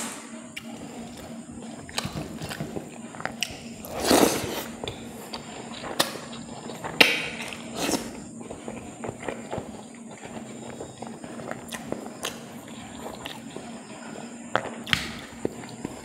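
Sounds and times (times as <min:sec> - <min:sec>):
person chewing with mouth clicks: 0:00.5 - 0:16.0.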